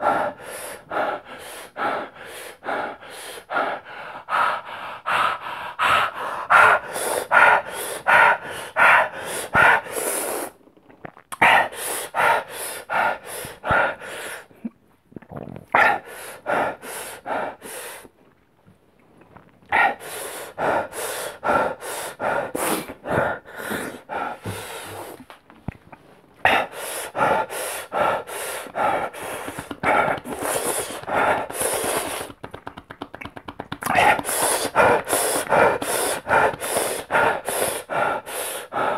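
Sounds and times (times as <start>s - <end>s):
man panting hard: 0.0s - 10.5s, 11.4s - 14.5s, 15.8s - 18.1s, 19.8s - 25.2s, 26.5s - 32.4s, 33.8s - 38.9s.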